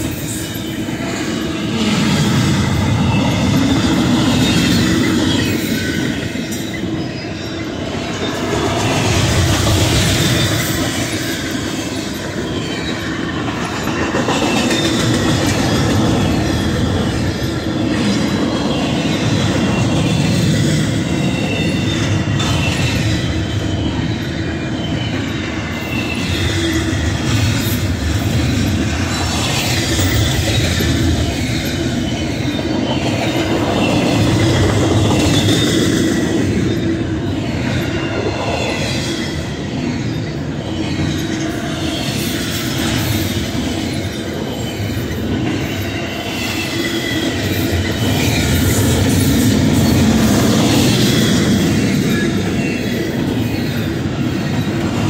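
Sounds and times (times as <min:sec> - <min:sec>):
faint high wheel squeal: 0:00.0 - 0:55.0
train wheels rumbling on rail: 0:00.0 - 0:55.0.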